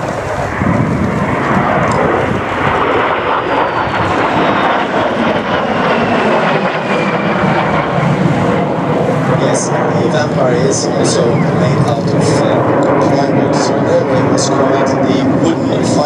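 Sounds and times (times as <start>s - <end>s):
jets passing: 0.0s - 16.0s.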